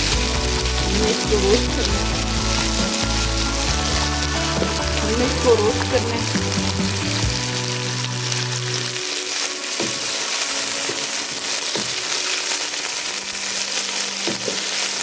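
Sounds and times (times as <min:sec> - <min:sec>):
chicken frying in oil: 0:00.0 - 0:15.0.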